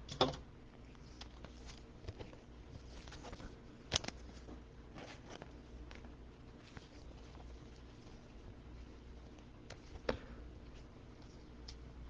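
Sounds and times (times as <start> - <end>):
plastic sleeve rustling: 0.8 - 11.9.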